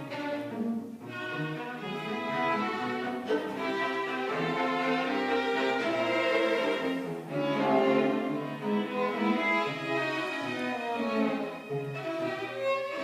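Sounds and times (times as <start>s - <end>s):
string quartet playing: 0.0s - 13.0s.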